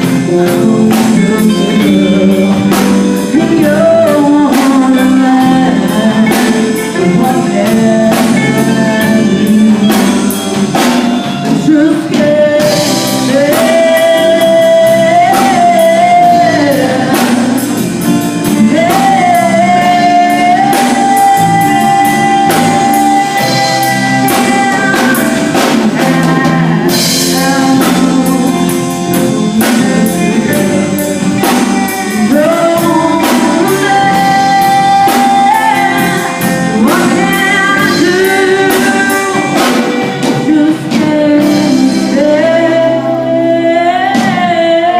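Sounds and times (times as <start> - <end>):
live rock band playing: 0.0 - 44.9
person singing: 0.0 - 44.9.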